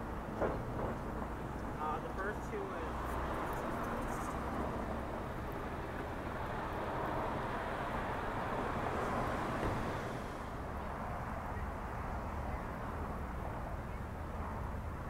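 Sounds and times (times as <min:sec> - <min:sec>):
hum of traffic: 0:00.0 - 0:15.0
vehicles passing close by: 0:00.0 - 0:15.0.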